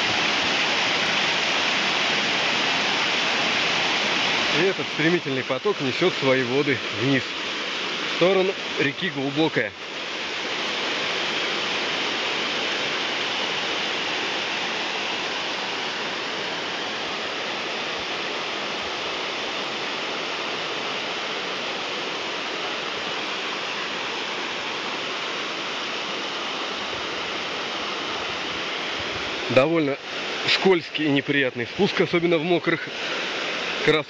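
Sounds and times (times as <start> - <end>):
waterfall pouring over rock: 0.0 - 34.0.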